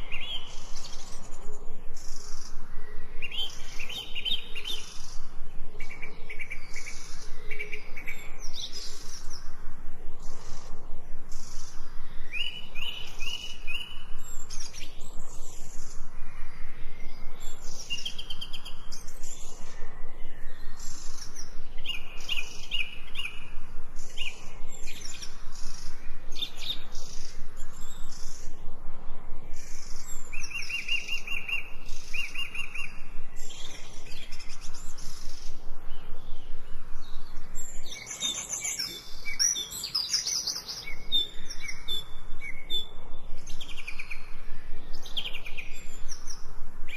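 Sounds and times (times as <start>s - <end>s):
birds chirping and singing: 0.0s - 46.9s.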